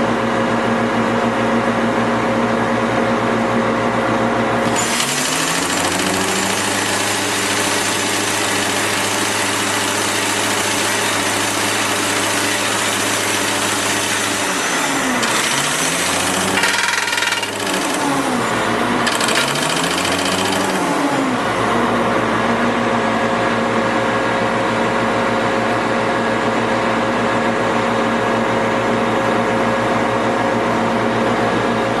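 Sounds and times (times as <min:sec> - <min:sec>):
diesel engine and hydraulics running: 0:00.0 - 0:27.7.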